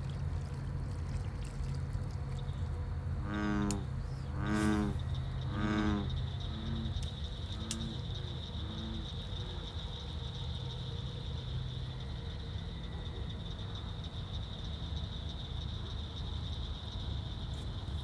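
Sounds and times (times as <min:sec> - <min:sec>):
insect chorus: 0:00.1 - 0:18.0.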